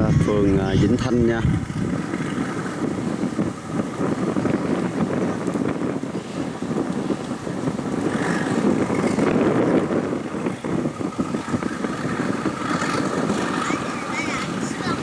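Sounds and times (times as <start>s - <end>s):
engine rumble: 0.0s - 15.0s
wind buffeting microphone: 0.0s - 15.0s.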